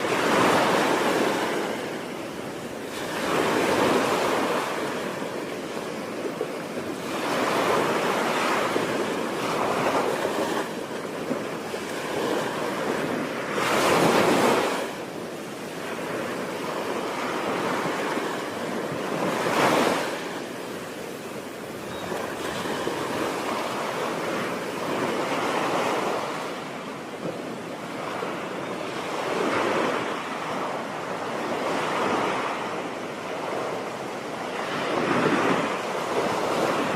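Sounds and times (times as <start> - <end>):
ocean surf breaking: 0.0 - 36.9.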